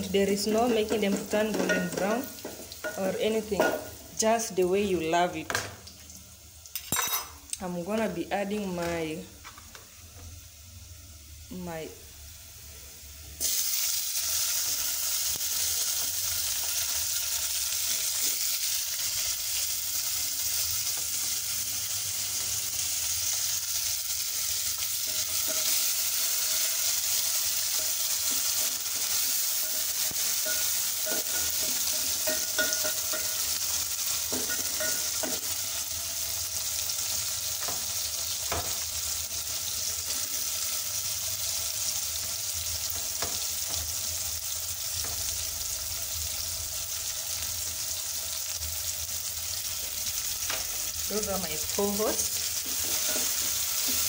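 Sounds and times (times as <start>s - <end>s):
tomatoes sizzling in hot oil: 0.0s - 54.0s.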